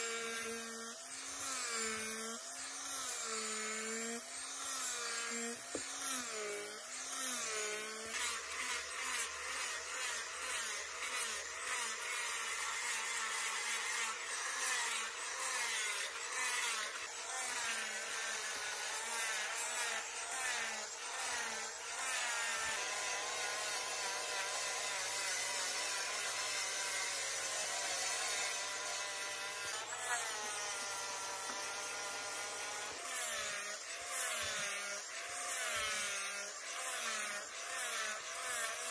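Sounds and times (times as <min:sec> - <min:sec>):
angle grinder sanding horn: 0:00.0 - 0:38.9.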